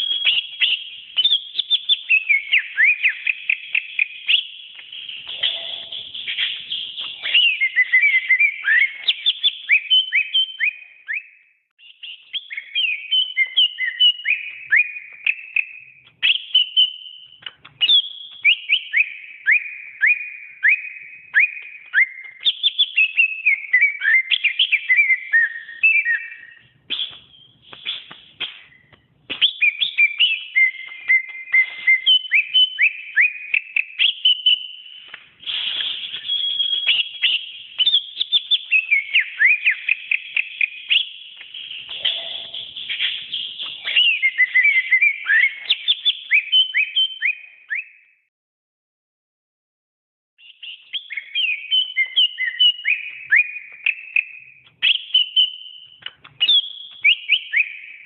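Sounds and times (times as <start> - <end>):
songbird singing whistled notes: 0.0 - 48.3, 50.4 - 58.0.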